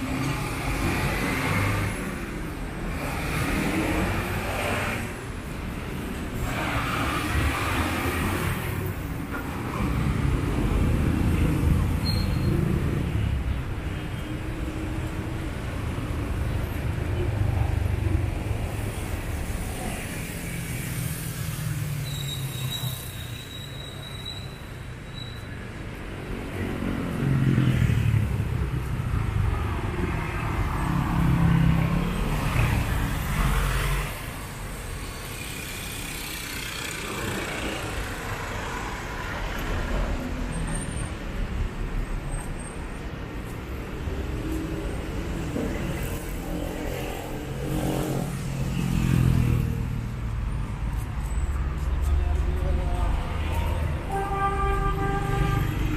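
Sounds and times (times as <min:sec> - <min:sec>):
vehicles passing: 0:00.0 - 0:55.9.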